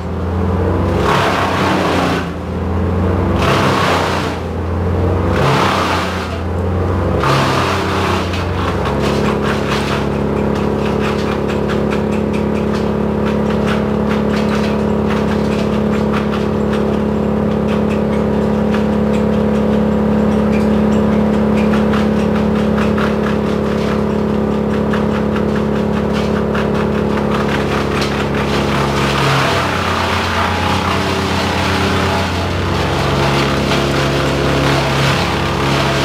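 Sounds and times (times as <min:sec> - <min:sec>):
crane engine running: 0:00.0 - 0:36.0.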